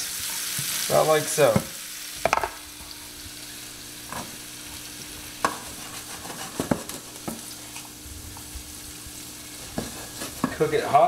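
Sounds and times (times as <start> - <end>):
asparagus sizzling in a pan: 0.0 - 11.0.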